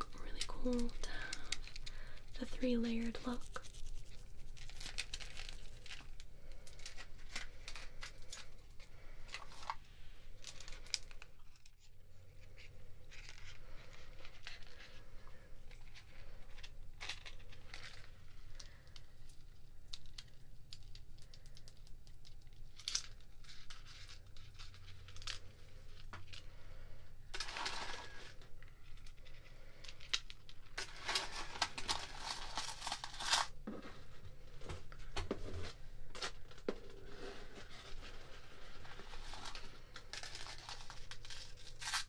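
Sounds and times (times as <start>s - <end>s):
rustling: 0.0s - 19.4s, 21.2s - 42.0s.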